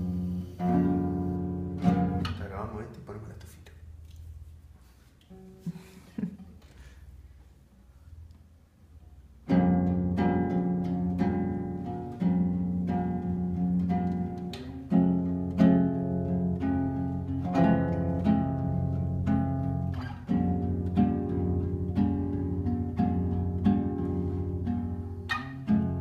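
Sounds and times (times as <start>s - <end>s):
classical guitar fingerstyle: 0.0s - 3.6s, 4.2s - 7.3s, 9.1s - 26.0s.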